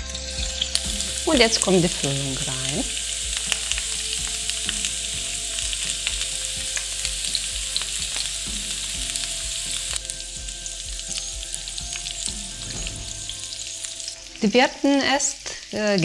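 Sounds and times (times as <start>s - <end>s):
crackling pops of frying: 0.0s - 16.0s
vegetables frying in oil: 0.0s - 16.0s.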